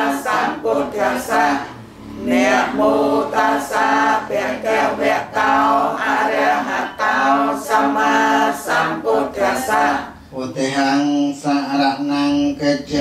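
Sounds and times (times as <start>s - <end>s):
congregation chanting in unison: 0.0s - 13.0s.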